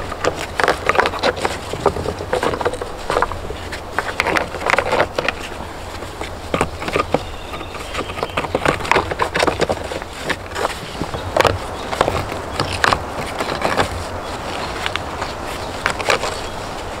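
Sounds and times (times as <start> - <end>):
stones clicking and knocking: 0.0 - 17.0.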